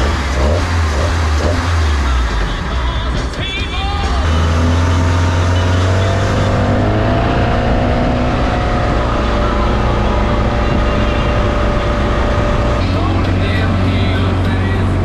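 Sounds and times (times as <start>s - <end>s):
boat engine drone: 0.0s - 3.2s, 3.8s - 15.0s
engine whine: 0.0s - 15.0s.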